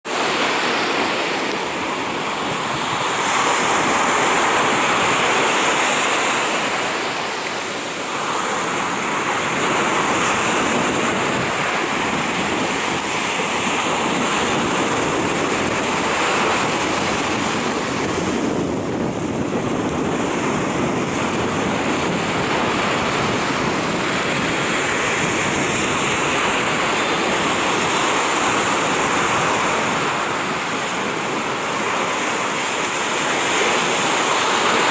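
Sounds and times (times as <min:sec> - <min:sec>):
waves breaking on beach: 0:00.0 - 0:34.9.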